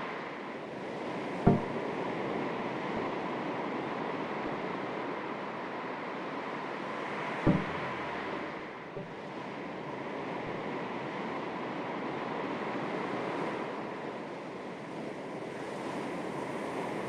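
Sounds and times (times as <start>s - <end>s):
sea waves lapping at shore: 0.0s - 17.0s.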